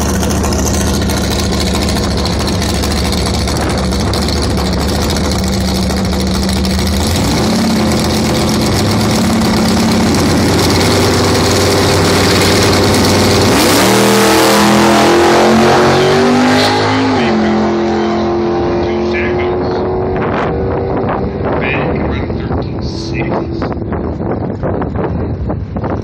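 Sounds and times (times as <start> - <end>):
drag car engine idling and revving: 0.0 - 26.0.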